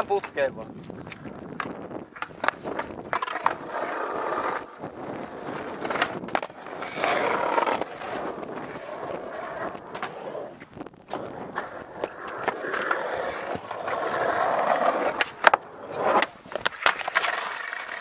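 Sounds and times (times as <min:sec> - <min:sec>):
skateboard wheels rolling on asphalt: 0:00.0 - 0:18.0
skateboard clacks: 0:01.1 - 0:18.0.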